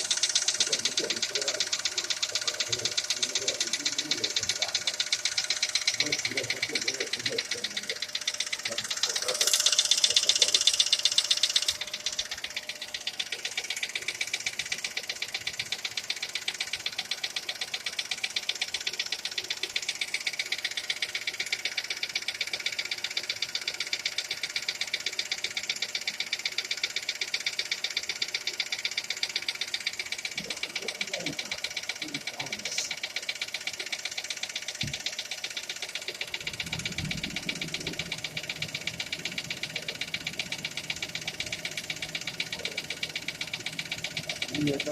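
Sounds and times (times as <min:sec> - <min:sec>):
car engine running: 0:00.0 - 0:44.9
fast regular engine knock: 0:00.0 - 0:44.9.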